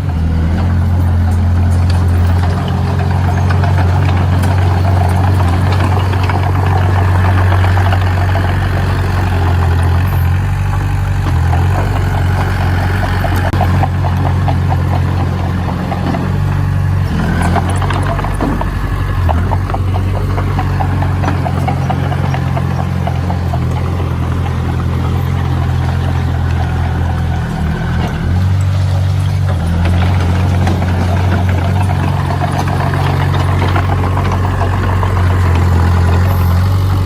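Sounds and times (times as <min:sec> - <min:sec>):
diesel engine running: 0:00.0 - 0:37.0
fast rattle: 0:01.2 - 0:37.0.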